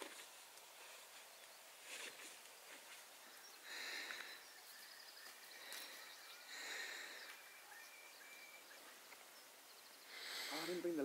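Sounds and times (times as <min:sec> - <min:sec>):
faint distant birdsong: 0:00.0 - 0:11.0.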